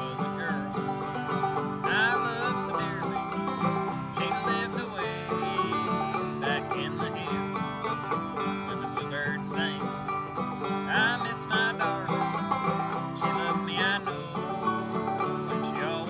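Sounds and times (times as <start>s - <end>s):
acoustic guitar strumming: 0.0s - 16.0s
banjo picking: 0.0s - 16.0s.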